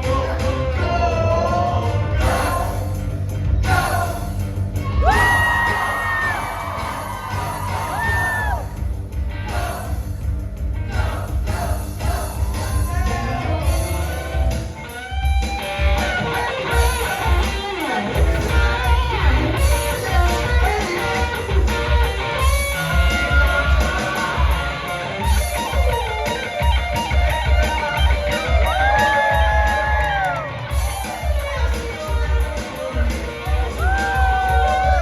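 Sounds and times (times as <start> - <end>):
rock music with electric guitar: 0.0 - 35.0.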